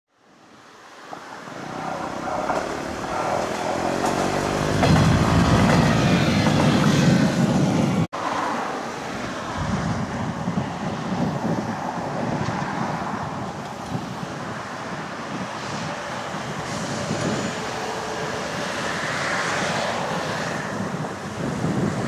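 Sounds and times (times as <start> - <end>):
wind: 0.1 - 22.0
diesel railcar passing: 0.3 - 22.0.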